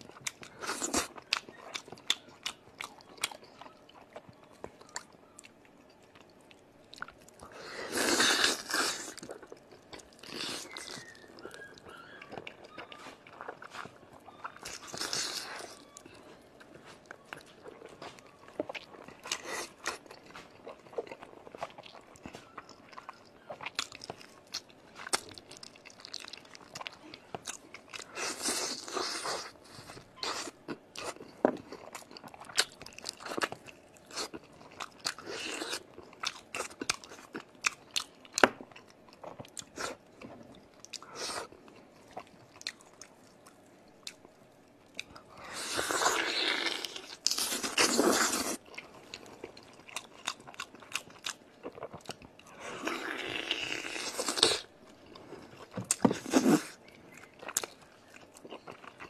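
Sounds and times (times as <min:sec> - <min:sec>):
person chewing: 0:00.0 - 0:59.0.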